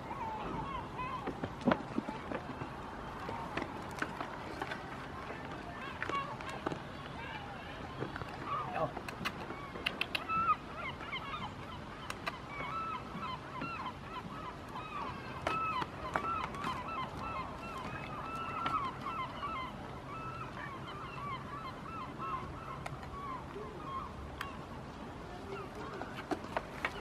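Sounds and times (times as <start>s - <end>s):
flock of birds calling: 0.0s - 27.0s.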